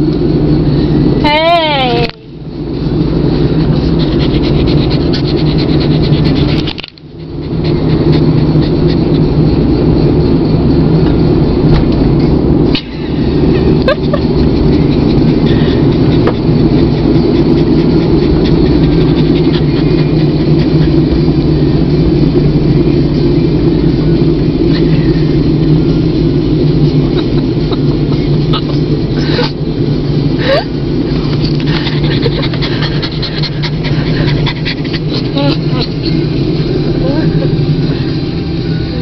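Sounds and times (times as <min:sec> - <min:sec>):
car cabin engine and road drone: 0:00.0 - 0:39.0.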